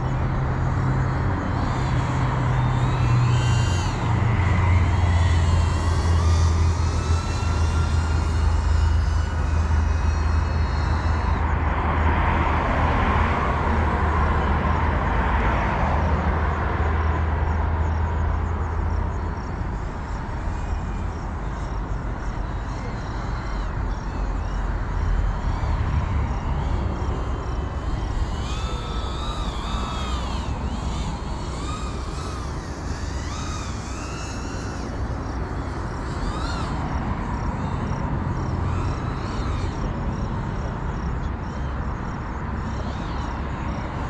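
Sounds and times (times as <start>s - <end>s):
drone motors whining: 0.0s - 44.0s.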